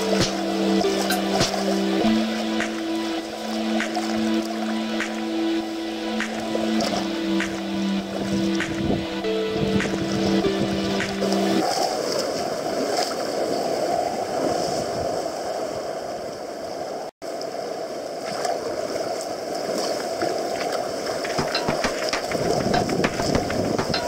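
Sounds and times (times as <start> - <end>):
water splashes: 0.0 - 16.1, 16.7 - 24.0.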